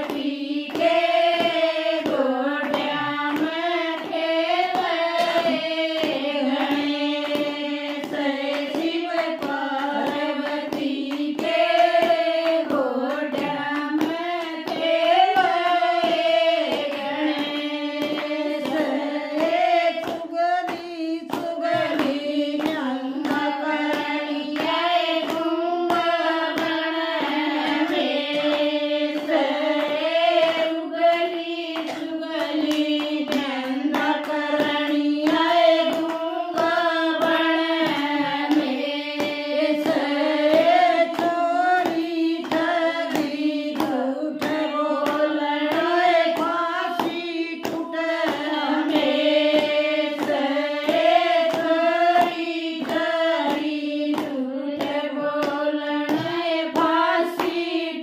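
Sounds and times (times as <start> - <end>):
rhythmic hand claps: 0.0 - 58.0
women singing together: 0.0 - 58.0.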